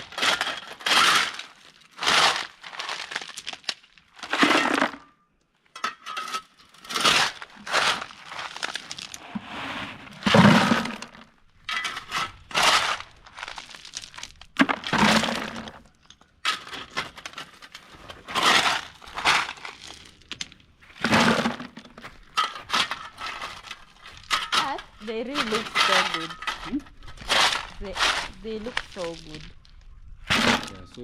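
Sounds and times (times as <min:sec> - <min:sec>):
stones and gravel crunching: 0:00.0 - 0:31.0.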